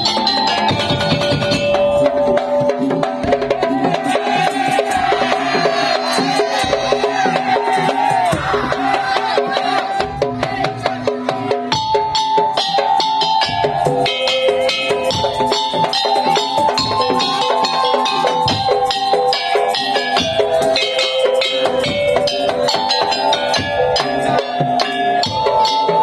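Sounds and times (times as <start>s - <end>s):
wooden slit drums and drums: 0.0s - 26.0s.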